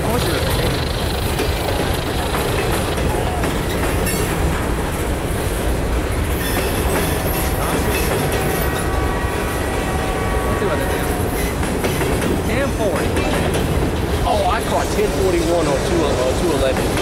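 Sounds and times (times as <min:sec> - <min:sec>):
wheels clicking over rail joints: 0:00.0 - 0:09.0, 0:10.9 - 0:17.0
freight cars rolling past: 0:00.0 - 0:17.0.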